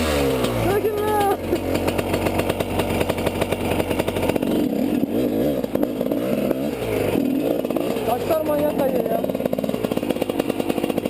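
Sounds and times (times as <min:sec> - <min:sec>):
motorcycle engine revving hard: 0:00.0 - 0:11.0.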